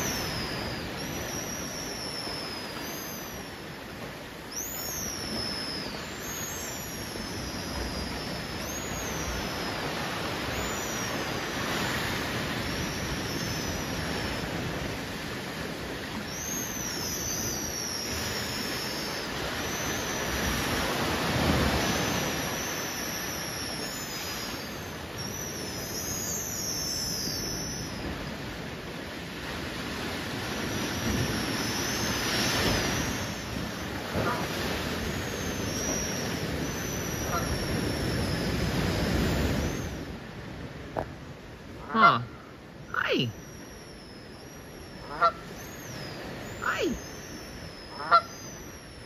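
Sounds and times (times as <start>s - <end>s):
small birds whistling calls: 0.0s - 15.0s, 15.6s - 28.4s, 30.4s - 40.1s, 42.8s - 49.0s
surf: 0.0s - 49.0s
wind: 0.0s - 49.0s.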